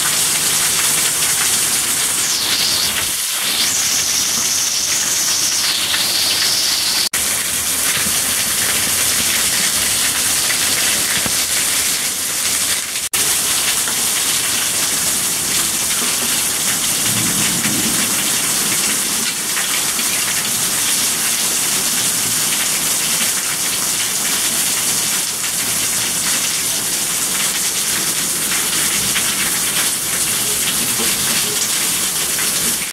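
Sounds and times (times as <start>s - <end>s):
heavy rain on hard surfaces: 0.0s - 32.9s.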